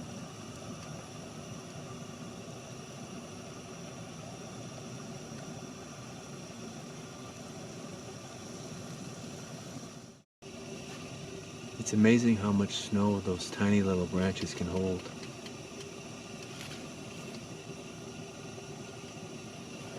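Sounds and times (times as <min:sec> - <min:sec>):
faint high whine: 0:00.0 - 0:19.9
propane burners hissing: 0:00.0 - 0:19.9.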